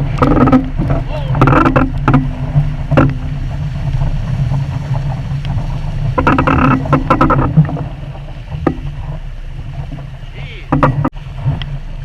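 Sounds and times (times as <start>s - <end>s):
knocks and splashes: 0.0s - 12.0s
water against sailboat: 0.0s - 12.0s
wind: 0.0s - 12.0s.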